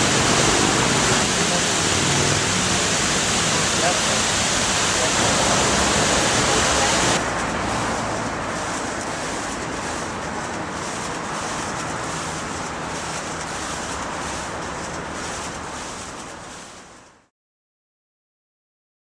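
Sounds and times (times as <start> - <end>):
city street traffic: 0.0 - 17.3
falling water rushing: 0.0 - 17.3.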